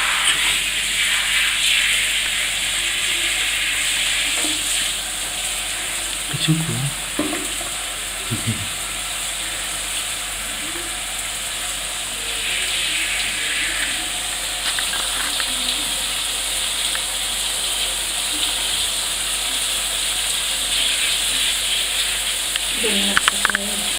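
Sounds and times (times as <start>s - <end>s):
shower spray hissing: 0.0s - 23.9s.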